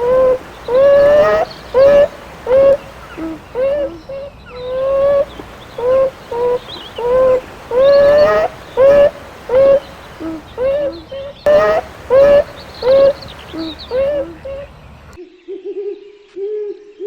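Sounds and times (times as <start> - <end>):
animal calls: 0.0 - 14.7.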